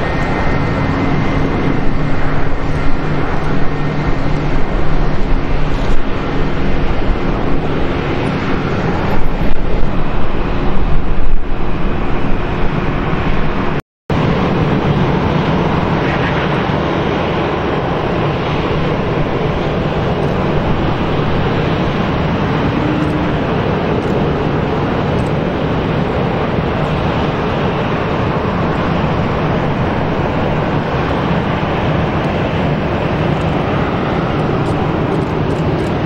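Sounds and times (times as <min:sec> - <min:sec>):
jet engines running: 0:00.0 - 0:36.0
wind on microphone: 0:00.0 - 0:36.0.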